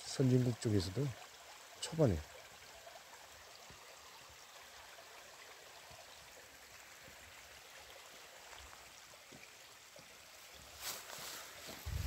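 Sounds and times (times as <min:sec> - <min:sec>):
stream trickling over rocks: 0:00.0 - 0:12.0.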